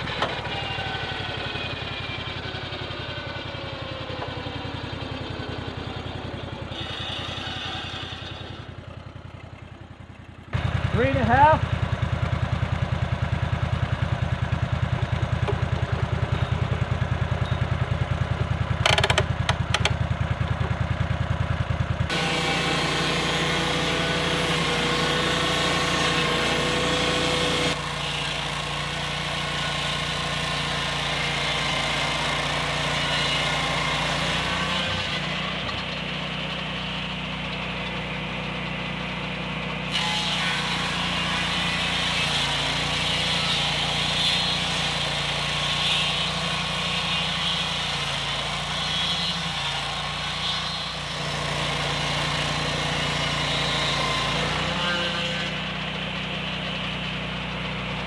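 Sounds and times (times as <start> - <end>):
sawmill blade cutting log: 0.0 - 9.7, 10.5 - 58.0.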